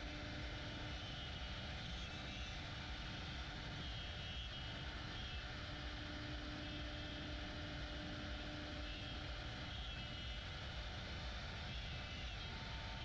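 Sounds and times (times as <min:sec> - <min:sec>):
cnc router running: 0:00.0 - 0:13.0.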